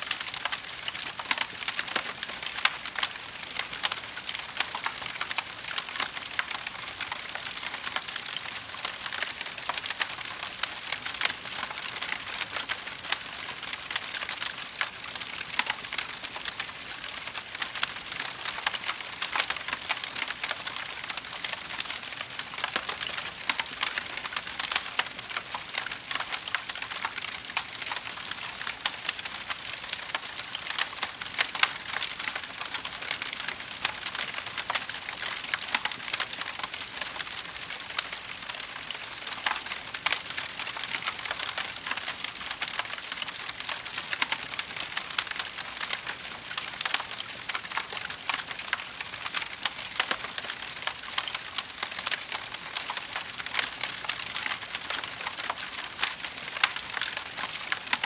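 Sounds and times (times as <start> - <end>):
fire crackling: 0.1 - 58.0.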